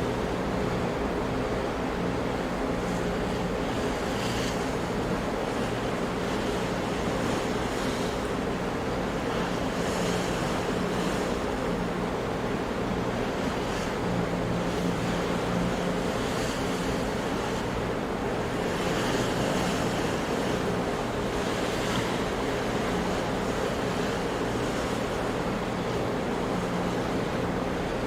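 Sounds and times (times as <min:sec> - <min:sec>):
ocean waves washing: 0:00.0 - 0:28.0.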